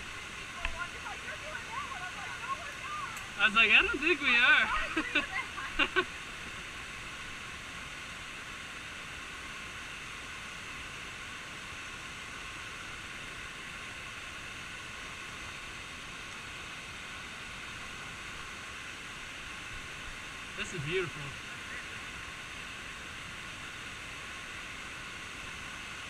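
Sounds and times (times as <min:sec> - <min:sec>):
waterfall rushing hiss: 0:00.0 - 0:26.0.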